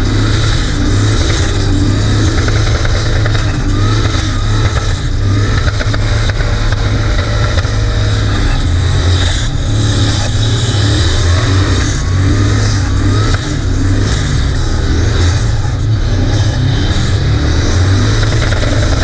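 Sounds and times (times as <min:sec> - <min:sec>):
car engine revving high: 0:00.0 - 0:19.0
tyres spinning: 0:00.0 - 0:19.0.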